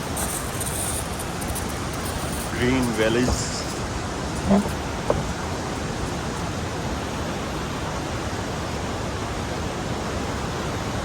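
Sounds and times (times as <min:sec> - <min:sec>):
waterfall and river roaring: 0:00.0 - 0:11.0.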